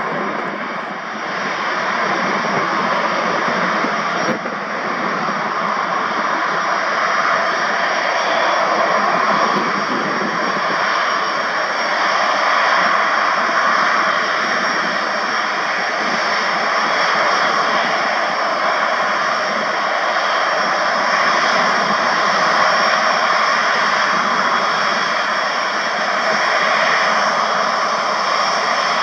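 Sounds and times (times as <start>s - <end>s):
jet engines whining at taxi power: 0.0s - 29.0s.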